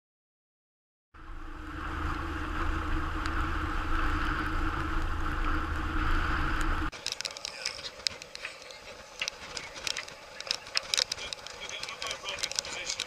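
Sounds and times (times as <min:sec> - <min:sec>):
boat engine humming: 0:01.2 - 0:13.0
water rushing along hull: 0:01.2 - 0:13.0.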